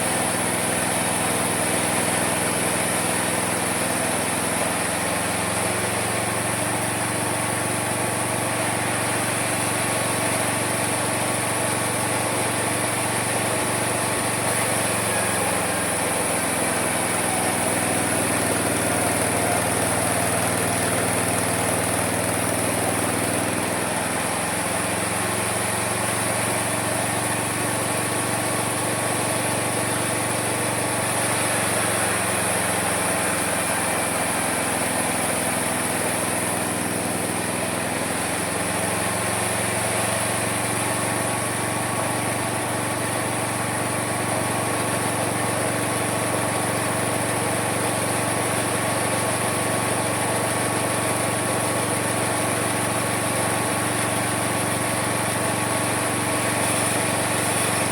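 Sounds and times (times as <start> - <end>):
sawmill motor drone: 0.0 - 57.9
high whine and sawing hiss: 1.6 - 49.2.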